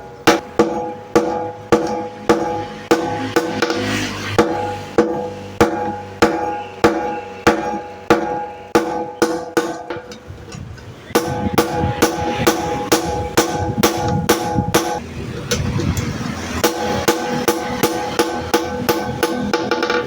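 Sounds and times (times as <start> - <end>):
anvil ringing: 0.0 - 10.3, 11.1 - 15.0, 16.6 - 20.0
hammer striking anvil: 0.0 - 10.3, 11.2 - 15.0, 16.6 - 20.0.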